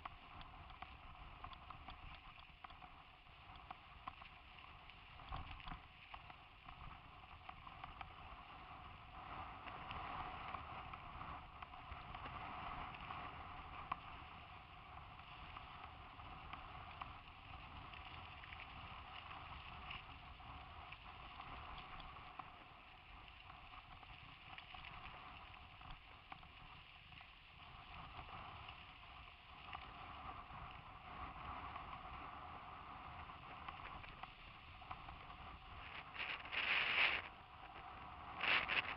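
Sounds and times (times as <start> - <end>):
constant hiss: 0.0 - 38.9
mountain bike riding on dirt: 0.0 - 38.9.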